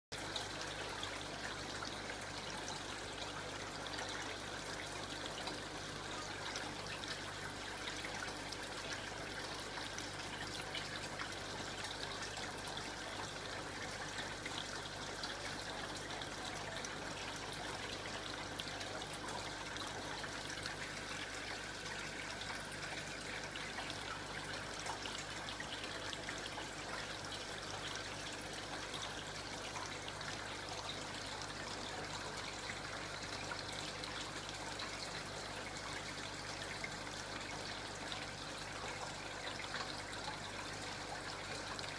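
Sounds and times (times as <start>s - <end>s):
aquarium water trickling: 0.1s - 41.9s.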